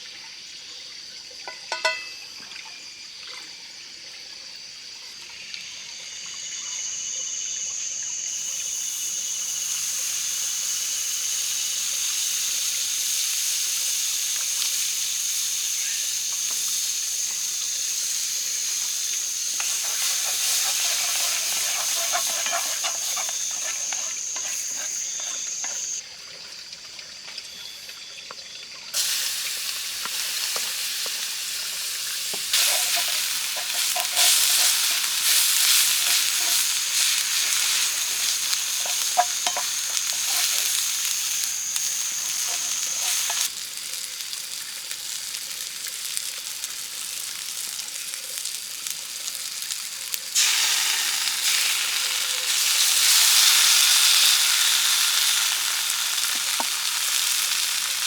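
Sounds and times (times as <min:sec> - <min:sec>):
food sizzling in a pan: 0:00.0 - 0:03.0, 0:05.6 - 0:26.0, 0:28.9 - 0:58.0.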